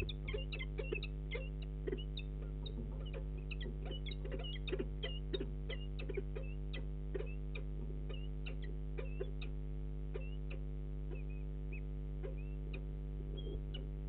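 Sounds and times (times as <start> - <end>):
high bird chirps: 0.0 - 13.9
electrical mains hum: 0.0 - 14.0.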